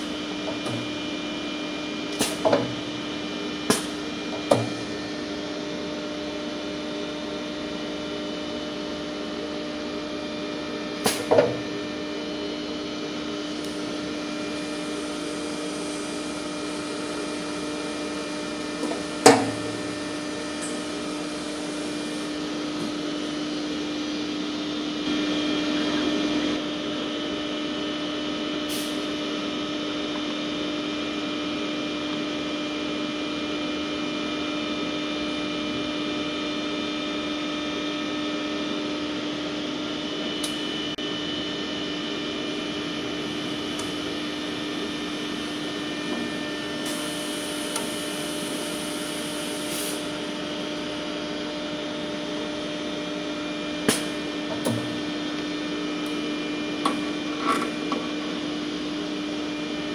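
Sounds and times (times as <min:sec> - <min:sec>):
electrical machine hum: 0:00.0 - 0:59.9.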